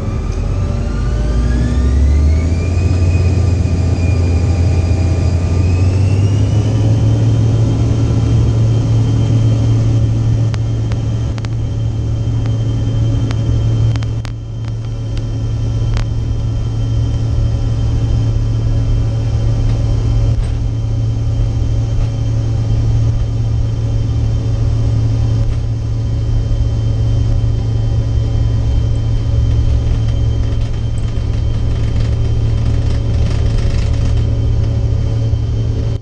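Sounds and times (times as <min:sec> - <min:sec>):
jet engines whining and rumbling: 0:00.0 - 0:36.0.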